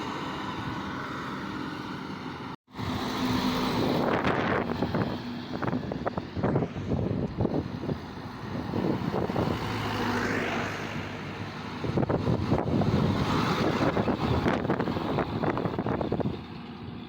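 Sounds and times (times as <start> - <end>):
heavy truck engine rumbling: 0.0 - 17.0.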